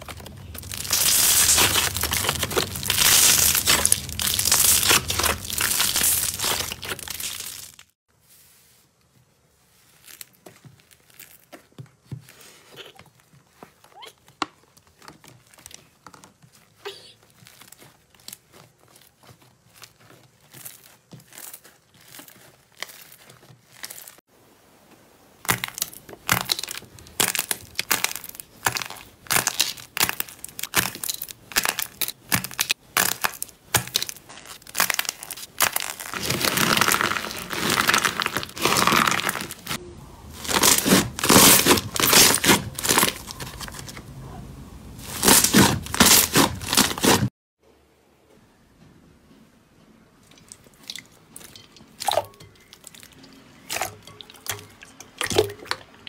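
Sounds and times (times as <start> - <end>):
slime squishing and crackling: 0.0 - 8.0, 9.5 - 24.3, 25.4 - 47.3, 50.3 - 56.0.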